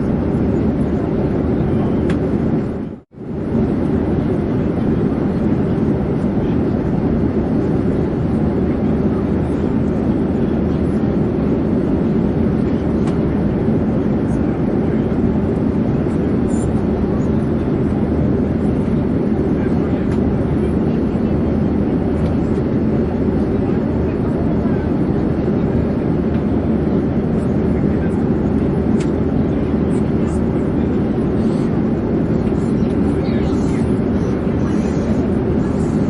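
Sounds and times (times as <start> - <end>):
airplane drone in flight: 0.0 - 36.0.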